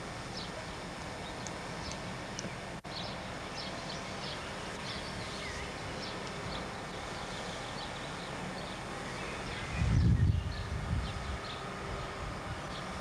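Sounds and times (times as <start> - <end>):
outdoor background hiss: 0.0 - 13.0
birds chirping: 0.3 - 13.0.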